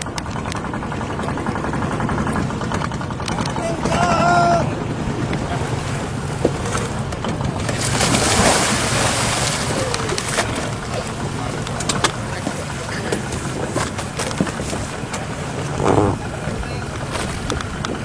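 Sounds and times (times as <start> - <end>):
boat engine running: 0.0 - 18.0
propeller churning water: 0.0 - 18.0
splashing wash: 0.0 - 18.0.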